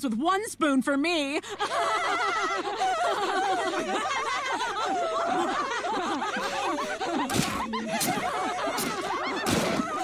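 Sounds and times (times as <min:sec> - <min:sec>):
women laughing: 0:01.4 - 0:10.0.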